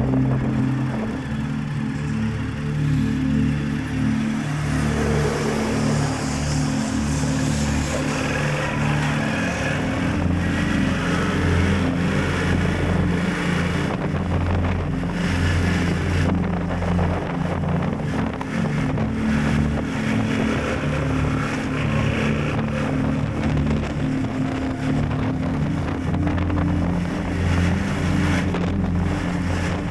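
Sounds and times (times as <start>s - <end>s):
motorcycle engine cruising: 0.0s - 29.9s
wind buffeting microphone: 0.0s - 29.9s.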